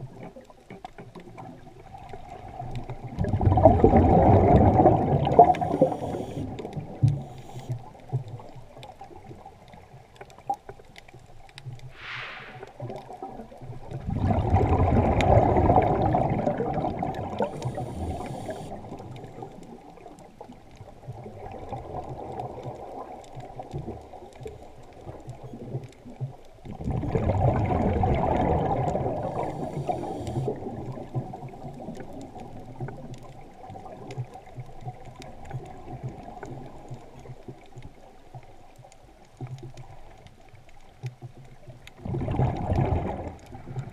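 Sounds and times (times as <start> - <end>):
diver's exhaled bubbles underwater: 0.0 - 10.6, 11.9 - 38.7, 41.1 - 43.9
soft underwater noise: 0.0 - 43.9.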